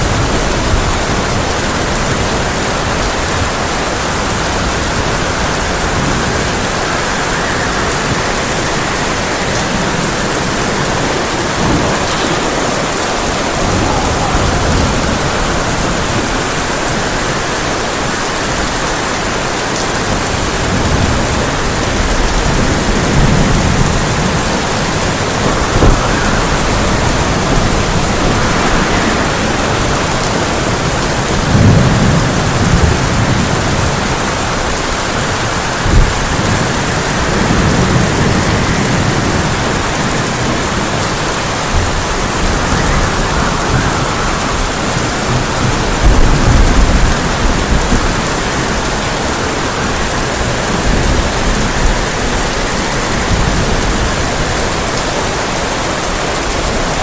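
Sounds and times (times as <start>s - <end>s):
rolls of thunder: 0.0s - 17.5s, 20.1s - 52.6s
rain on a tin roof: 0.0s - 57.0s.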